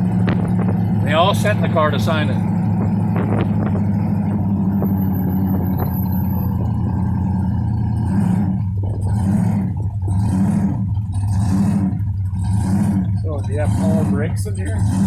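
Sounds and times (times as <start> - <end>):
car engine heard from cabin: 0.0 - 15.0.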